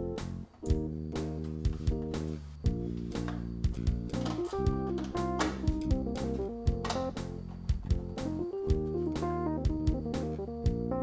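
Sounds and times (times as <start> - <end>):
guitar instrumental with drum beat: 0.7 - 10.9.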